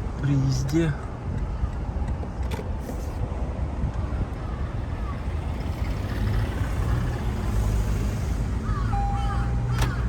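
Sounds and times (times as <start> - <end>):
car road noise rumble: 0.0 - 10.0.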